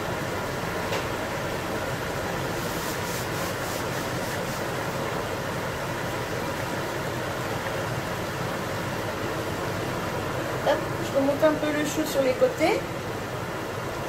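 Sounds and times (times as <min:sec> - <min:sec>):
range hood fan rushing: 0:00.0 - 0:14.0.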